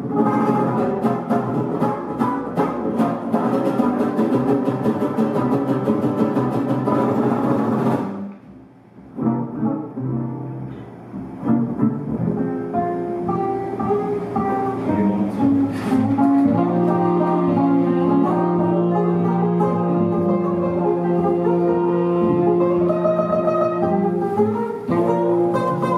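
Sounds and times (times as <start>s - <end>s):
jazz band playing: 0.0s - 8.3s, 9.1s - 25.9s
strummed acoustic guitar: 0.0s - 8.4s, 9.0s - 25.9s
upright bass: 0.0s - 25.9s.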